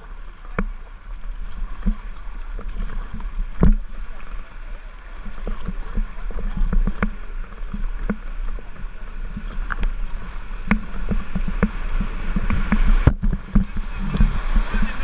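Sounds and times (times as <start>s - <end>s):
paddle strokes splashing: 0.0s - 15.0s
river rapid rushing: 0.0s - 15.0s.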